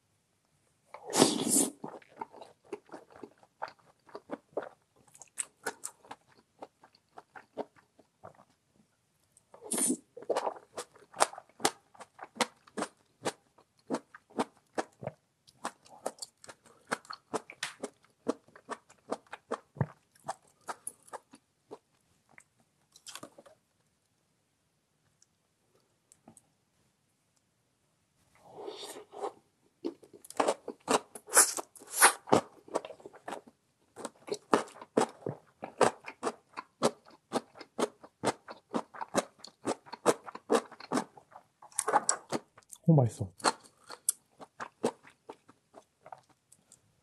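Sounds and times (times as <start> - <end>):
person chewing crunchy food: 1.0 - 8.6, 9.6 - 23.5, 28.7 - 42.8, 43.4 - 46.8.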